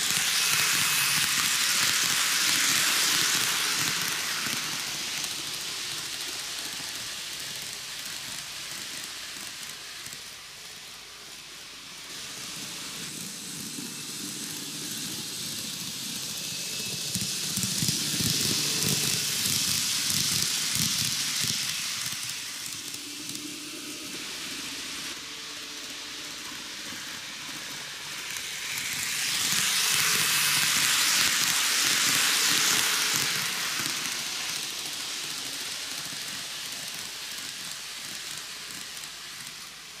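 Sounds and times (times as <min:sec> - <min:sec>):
model train rolling on track: 0:00.0 - 0:40.0.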